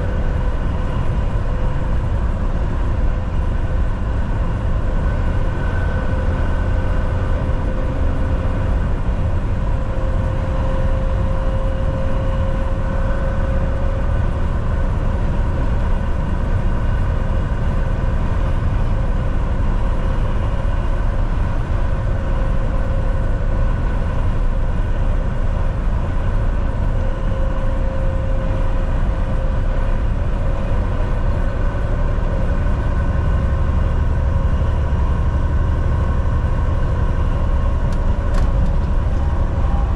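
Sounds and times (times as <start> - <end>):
faint constant whine: 0.0 - 39.9
road noise: 0.0 - 39.9
truck engine drone: 0.0 - 39.9.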